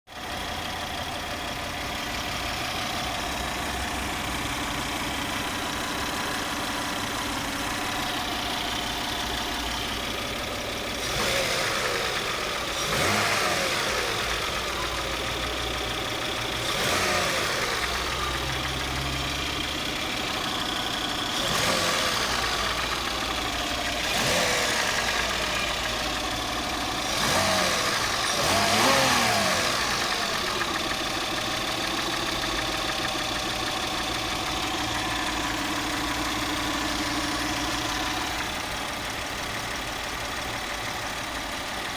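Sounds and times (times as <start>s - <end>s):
engine idling and revving: 0.1s - 41.9s
engine knocking: 0.1s - 41.9s.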